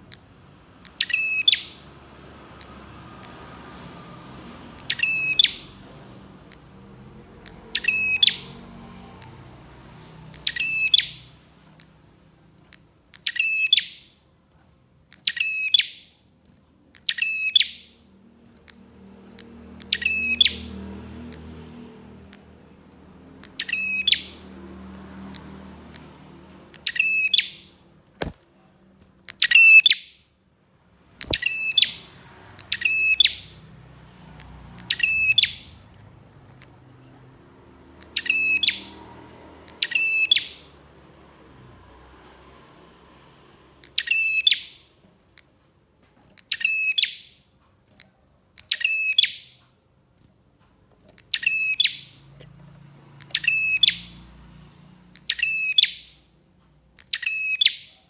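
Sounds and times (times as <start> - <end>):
prinia chirping rapidly: 0.0 - 14.4, 15.0 - 28.4, 29.0 - 30.3, 31.0 - 45.6, 46.3 - 49.6, 51.1 - 58.0
sharp clicks: 0.0 - 30.3, 31.0 - 54.2, 56.8 - 57.6.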